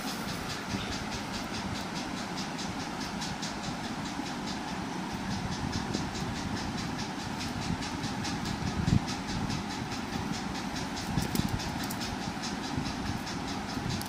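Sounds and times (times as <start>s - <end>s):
even ticking: 0.0s - 14.0s
mechanical hum: 0.0s - 14.0s.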